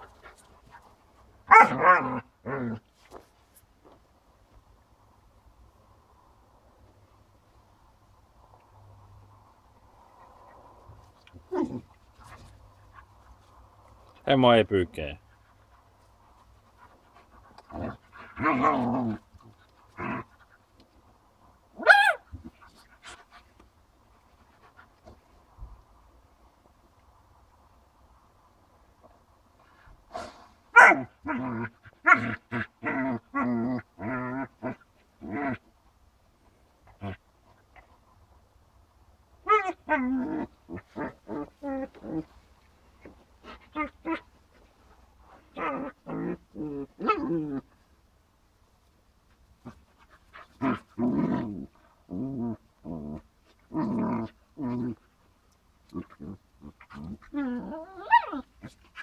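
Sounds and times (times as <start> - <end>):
dogs play-growling: 0.0 - 4.6, 8.4 - 14.2, 15.2 - 27.1, 28.7 - 48.0, 48.8 - 59.0.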